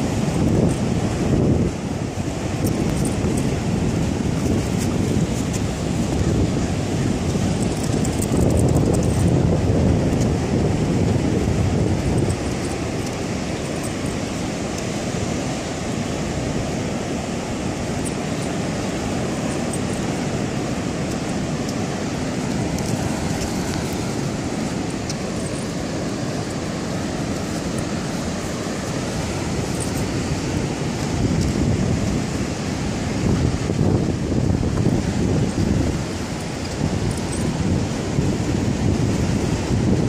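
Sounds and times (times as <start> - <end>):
distant ocean surf: 0.0 - 40.0
wind on microphone: 0.0 - 40.0.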